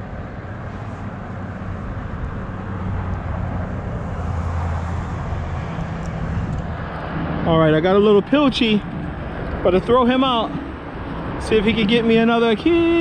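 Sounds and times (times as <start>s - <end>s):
passing engine hum: 0.0s - 13.0s.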